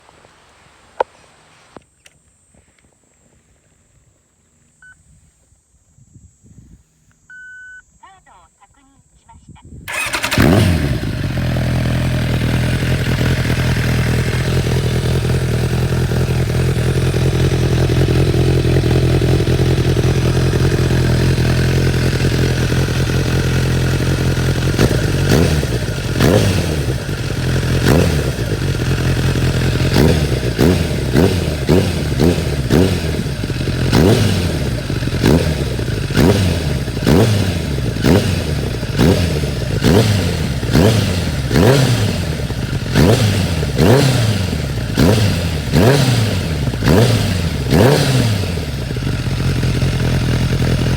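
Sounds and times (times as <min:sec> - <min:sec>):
motorcycle engine idling: 0:09.9 - 0:50.9
motorcycle engine revving: 0:09.9 - 0:50.9.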